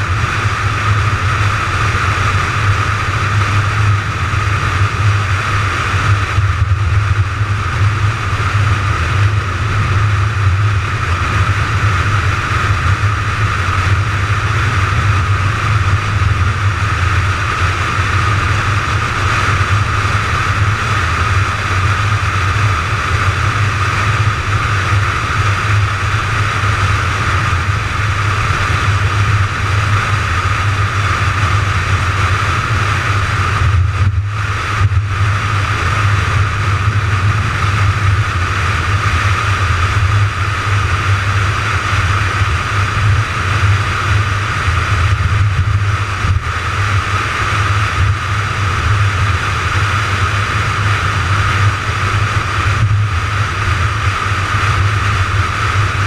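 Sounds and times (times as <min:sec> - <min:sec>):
car engine drone: 0:00.0 - 0:56.0
tyre and wind noise: 0:00.0 - 0:56.0.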